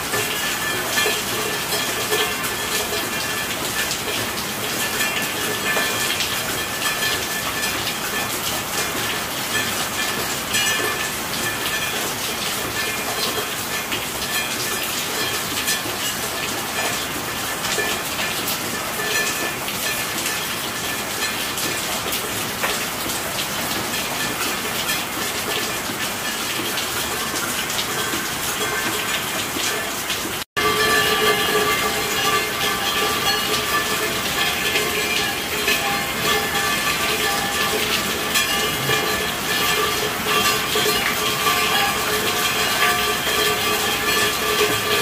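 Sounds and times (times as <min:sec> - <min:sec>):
heavy rainfall: 0:00.0 - 0:45.0.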